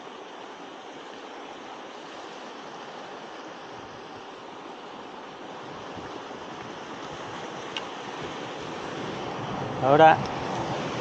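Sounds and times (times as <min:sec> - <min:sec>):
sea surf rushing: 0:00.0 - 0:11.0.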